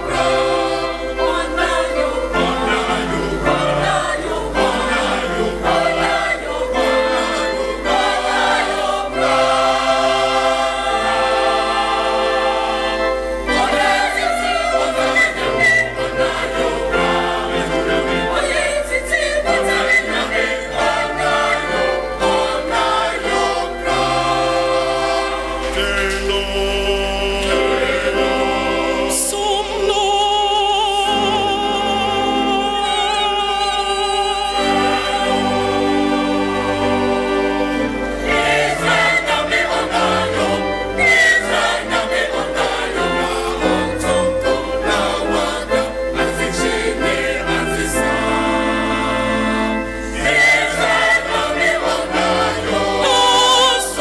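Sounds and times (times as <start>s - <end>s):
choir singing in harmony: 0.0s - 54.0s
electronic keyboard: 0.0s - 54.0s.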